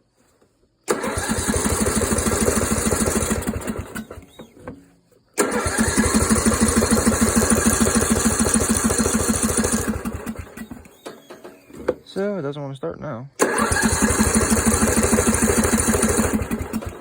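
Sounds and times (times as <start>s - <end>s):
engine cranking by starter: 0.8s - 4.7s, 5.4s - 11.9s, 13.4s - 17.0s.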